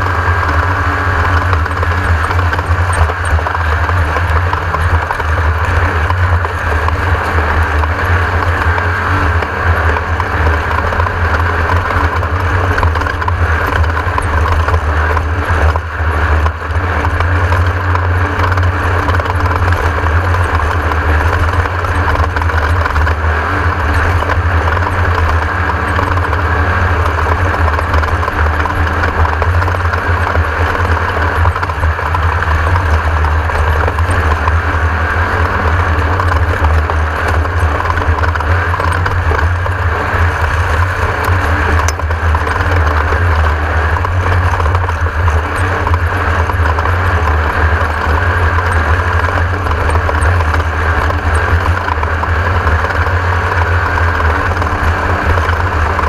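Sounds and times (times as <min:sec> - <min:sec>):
race car engine running steadily: 0:00.0 - 0:56.0.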